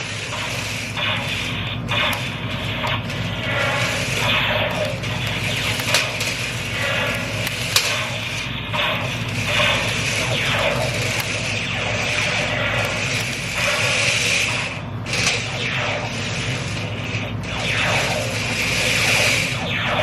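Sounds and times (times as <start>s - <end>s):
small electric motors whirring: 0.0s - 19.6s
electronic laser-fire sounds: 0.0s - 20.0s
sharp clicks: 0.0s - 20.0s.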